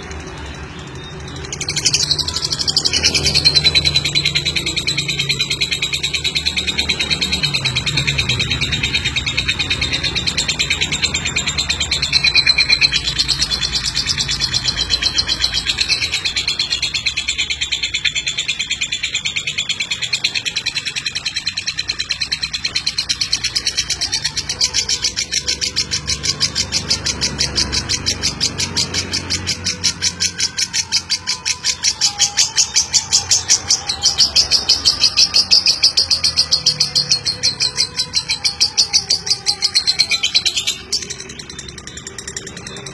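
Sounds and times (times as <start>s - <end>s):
lovebird chattering trill: 0.7s - 42.9s.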